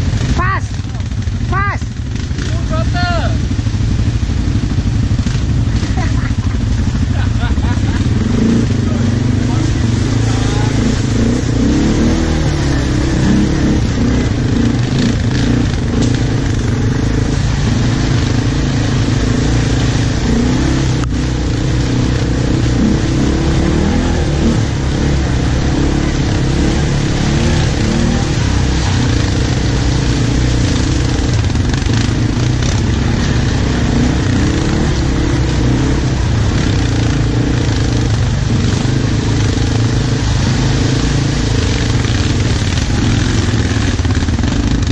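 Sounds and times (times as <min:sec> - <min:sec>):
atv engine revving: 0:00.0 - 0:44.9.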